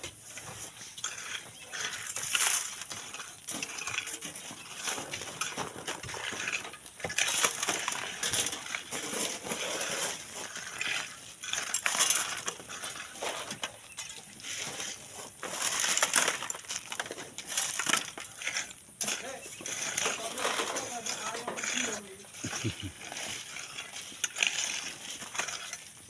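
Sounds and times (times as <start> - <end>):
shovel scraping sand and gravel: 0.0 - 26.0
stones clinking: 1.0 - 26.0.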